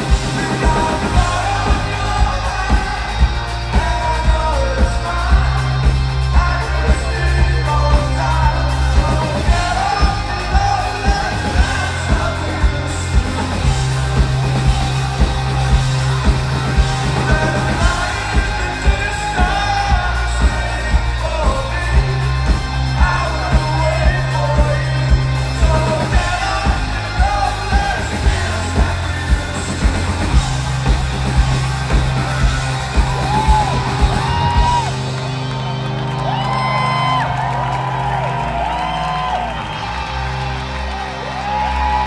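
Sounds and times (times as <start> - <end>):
person singing: 0.0 - 35.2
drum beat: 0.0 - 38.7
live rock band playing: 0.0 - 42.0.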